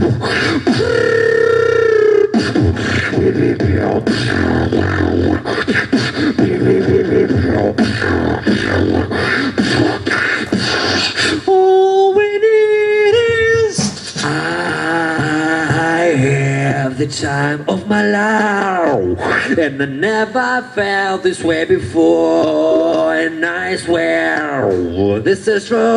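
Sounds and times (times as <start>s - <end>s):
beatboxing rhythm: 0.0s - 25.9s
held pitched vocal tone: 0.0s - 25.9s
melodic vocal line: 0.0s - 25.9s.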